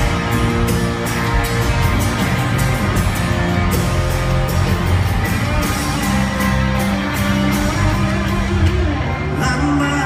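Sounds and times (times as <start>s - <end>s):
steady drum beat: 0.0s - 8.9s
country-rock band playing: 0.0s - 10.0s
electric guitar: 0.0s - 10.0s.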